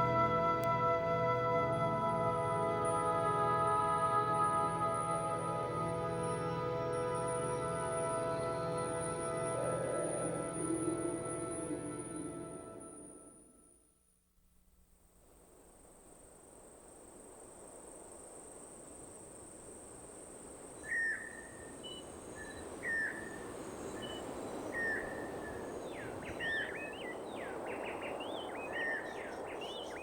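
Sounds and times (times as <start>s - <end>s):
steady high-pitched whine: 0.0s - 13.6s, 15.4s - 30.0s.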